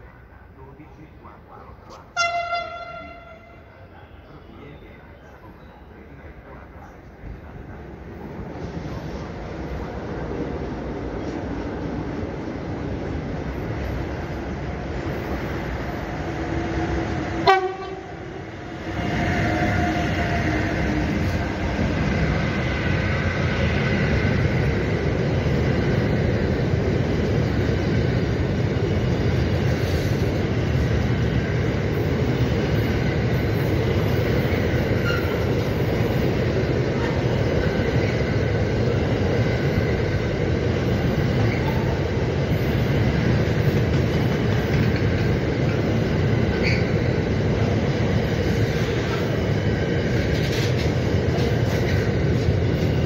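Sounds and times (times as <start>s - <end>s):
train wheels rumbling on rails: 0.8s - 53.0s.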